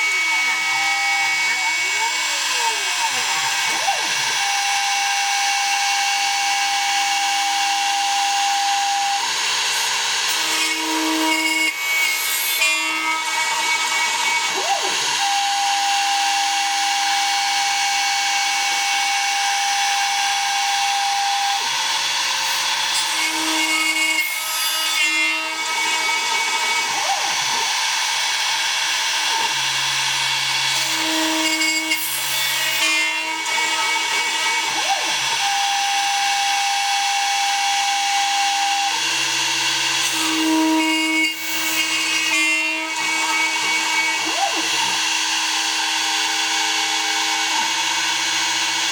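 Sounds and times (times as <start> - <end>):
router spindle hissing cut: 0.0 - 48.9.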